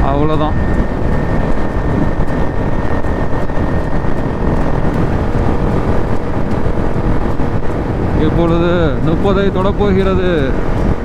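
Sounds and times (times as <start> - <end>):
motorcycle engine cruising: 0.0 - 11.0
wind rush on microphone: 0.0 - 11.0.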